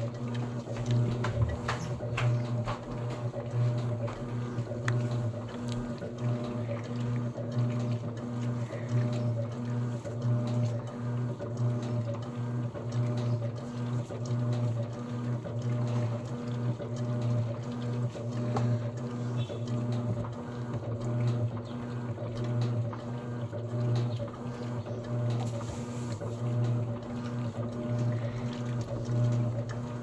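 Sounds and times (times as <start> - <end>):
washing machine motor hum: 0.0 - 30.0
water sloshing: 0.0 - 30.0.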